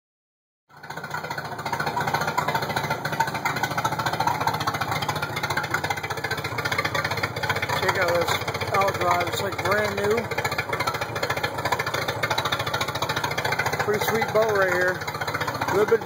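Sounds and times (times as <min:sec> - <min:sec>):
boat engine idling: 0:00.7 - 0:16.0.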